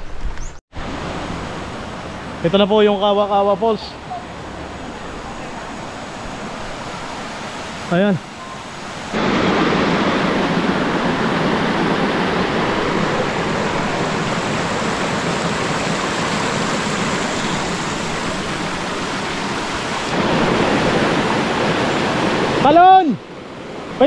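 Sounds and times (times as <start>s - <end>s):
waterfall and stream rushing: 0.7s - 24.0s.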